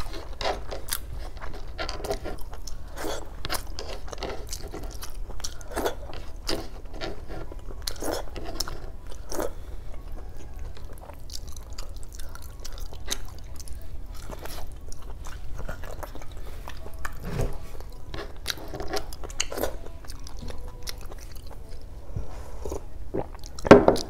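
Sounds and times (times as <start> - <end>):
chewing and wet mouth sounds: 0.0 - 24.0.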